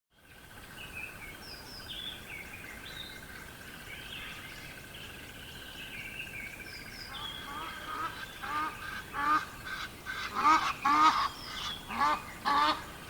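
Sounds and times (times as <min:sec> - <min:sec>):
low outdoor noise: 0:00.1 - 0:13.0
birds chirping: 0:00.2 - 0:13.0.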